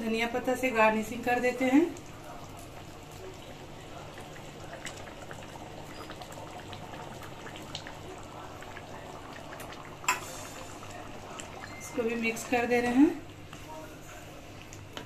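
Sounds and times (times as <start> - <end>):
thick curry bubbling: 1.8 - 15.0.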